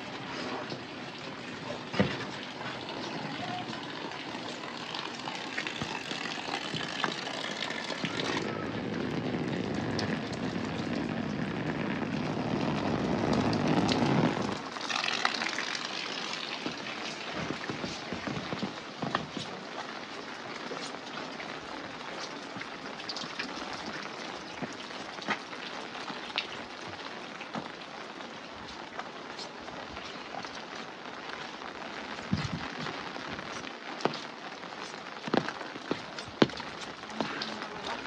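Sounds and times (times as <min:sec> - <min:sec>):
louder raindrops landing close: 0:00.0 - 0:38.0
steady rain hiss: 0:00.0 - 0:38.0.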